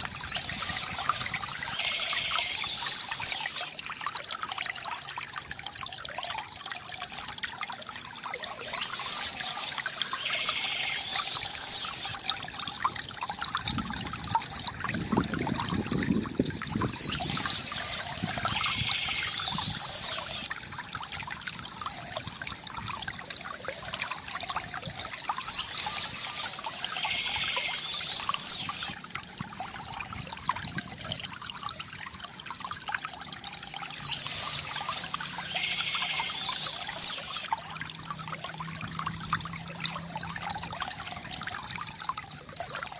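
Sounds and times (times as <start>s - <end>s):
stream trickling over stones: 0.0s - 42.9s.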